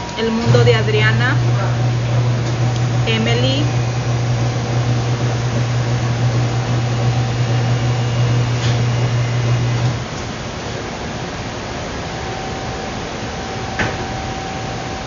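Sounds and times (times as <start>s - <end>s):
fan-like noise: 0.0s - 15.0s
low electrical hum: 0.0s - 15.0s.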